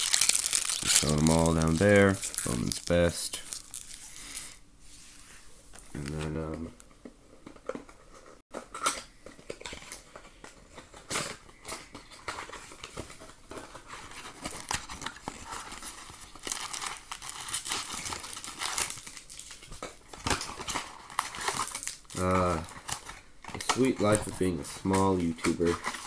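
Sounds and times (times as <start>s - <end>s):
foil wrappers crinkling: 0.0s - 4.6s, 8.2s - 26.0s.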